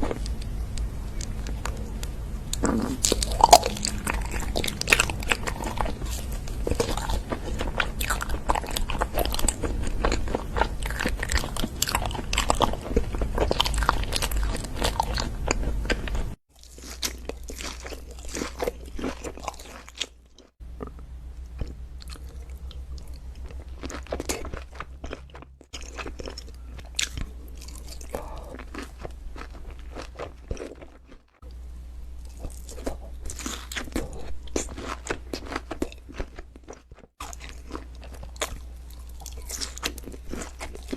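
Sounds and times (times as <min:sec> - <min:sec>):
crunchy eating and chewing: 0:00.0 - 0:31.6, 0:32.2 - 0:40.9.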